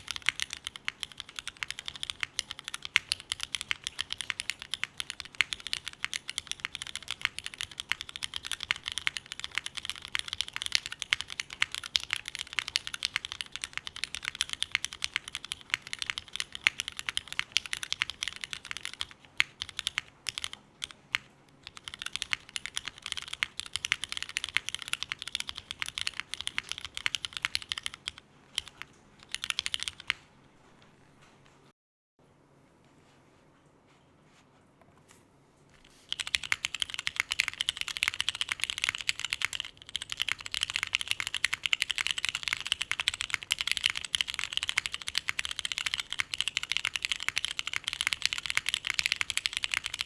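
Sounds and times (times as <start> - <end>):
mechanical keyboard typing: 0.0 - 30.3, 35.8 - 50.0.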